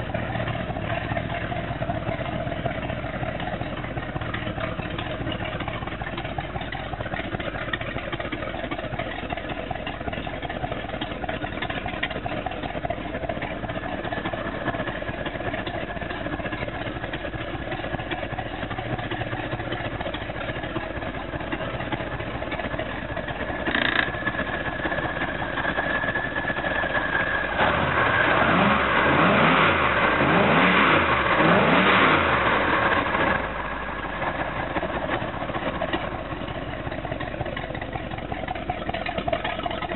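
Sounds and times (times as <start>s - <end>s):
boat engine revving: 0.0s - 33.3s.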